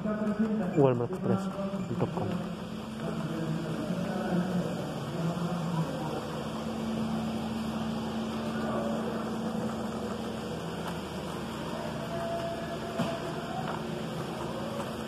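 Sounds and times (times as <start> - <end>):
hum of store machinery: 0.0 - 15.0.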